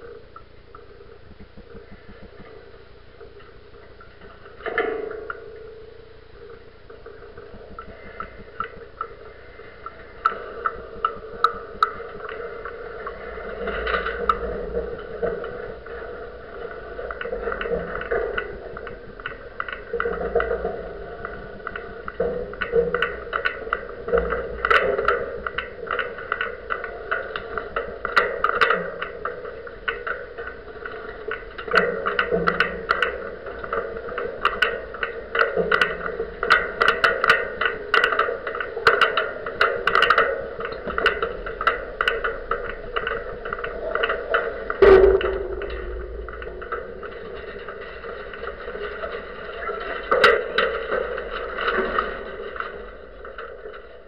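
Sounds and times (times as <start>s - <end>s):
camera mount vibrating drone: 0.0s - 54.0s
sharp clicks and knocks: 0.0s - 54.0s.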